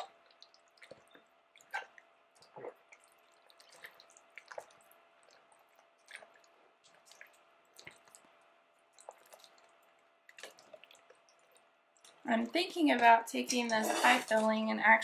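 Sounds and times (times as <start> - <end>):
wet squishes of stirred fruit sauce: 0.0 - 14.6.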